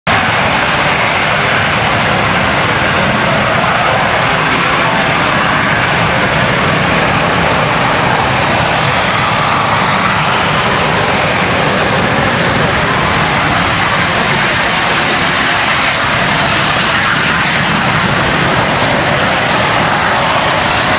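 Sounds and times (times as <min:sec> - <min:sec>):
aircraft engine noise: 0:00.0 - 0:20.9.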